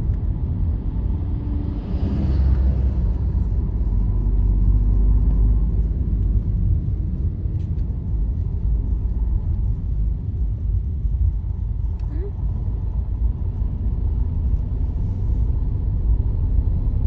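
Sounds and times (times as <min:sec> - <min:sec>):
vehicle road rumble from inside: 0:00.0 - 0:17.0.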